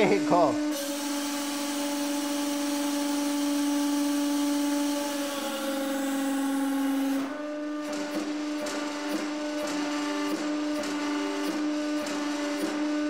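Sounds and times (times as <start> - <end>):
hydraulic pump humming and hissing: 0.0 - 13.0.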